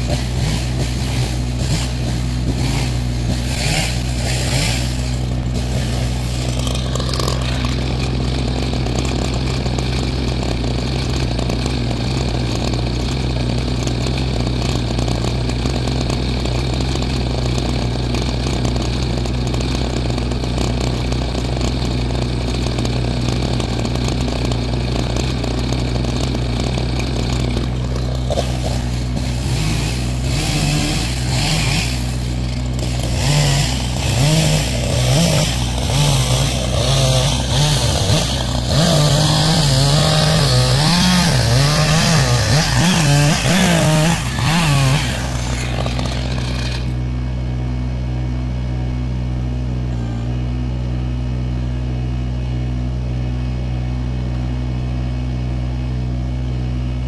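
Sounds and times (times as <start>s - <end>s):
diesel tractor engine idling: 0.0s - 52.0s
chainsaw idling with throttle blips: 0.0s - 57.0s.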